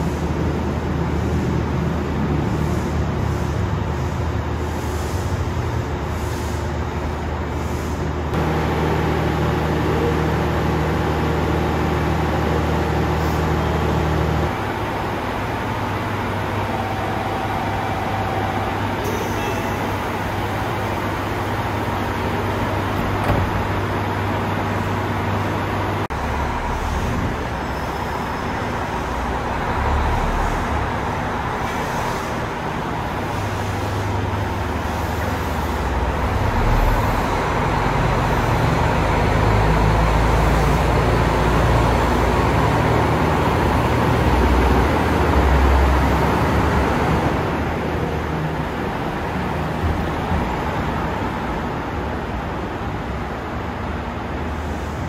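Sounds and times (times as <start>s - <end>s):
diesel railcar engine drone: 0.0s - 55.0s.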